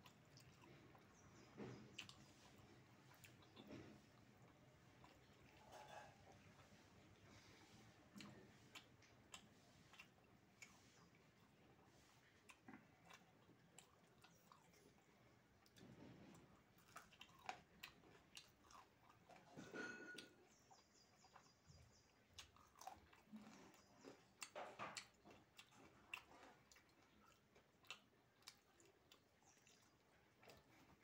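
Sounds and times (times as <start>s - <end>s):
faint chewing and mouth smacks: 0.0s - 31.0s.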